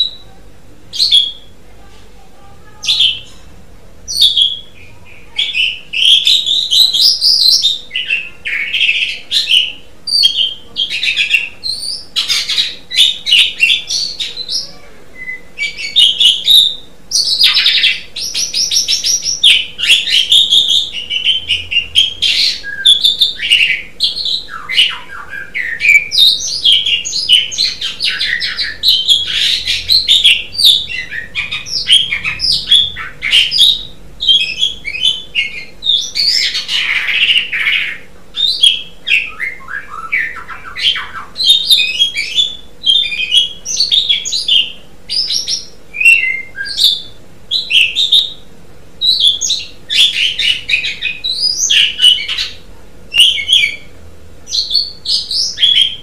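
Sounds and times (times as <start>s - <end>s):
starling singing: 0.0s - 1.6s, 2.4s - 56.0s.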